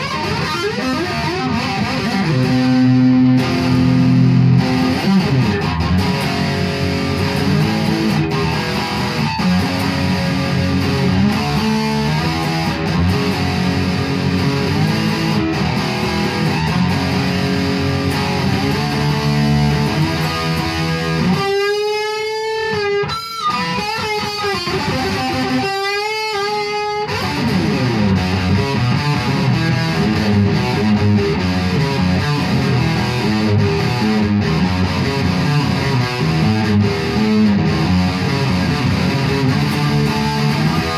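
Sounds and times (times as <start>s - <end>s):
electric guitar through amplifier: 0.0s - 40.9s.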